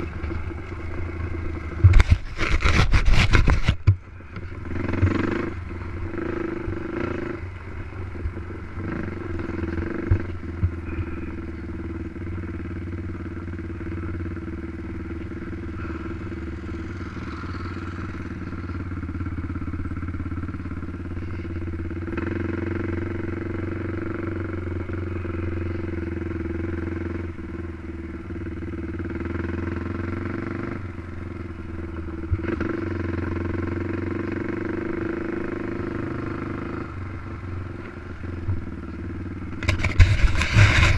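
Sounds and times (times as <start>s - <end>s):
quad engine revving: 4.4s - 27.3s, 28.4s - 40.9s.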